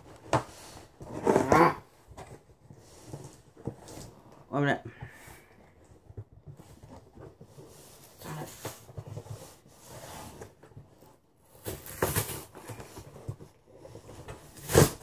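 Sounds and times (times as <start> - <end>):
cardboard scraping and rustling: 0.0 - 4.5, 5.1 - 15.0.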